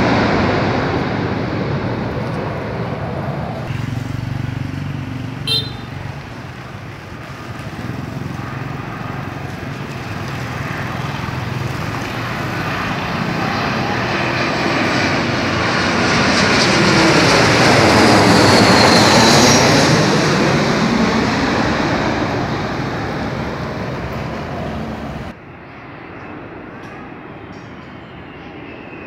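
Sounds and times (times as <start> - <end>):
high engine whine: 0.0 - 29.0
jet airliner passing overhead: 0.0 - 29.0.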